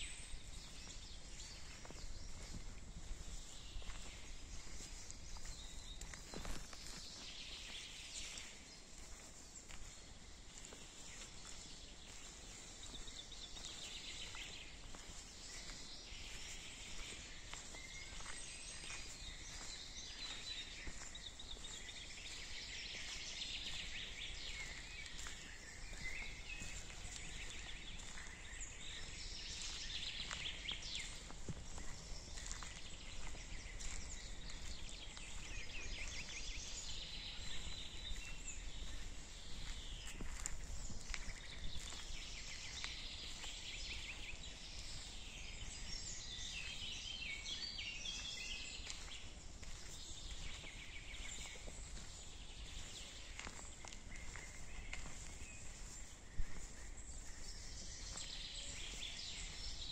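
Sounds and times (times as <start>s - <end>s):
small birds trilling: 0.0s - 59.9s
soft footsteps on path: 0.0s - 59.9s.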